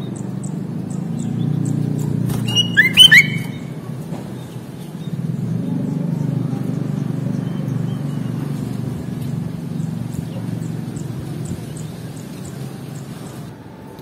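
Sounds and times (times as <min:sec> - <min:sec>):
small birds chirping: 0:00.0 - 0:13.5.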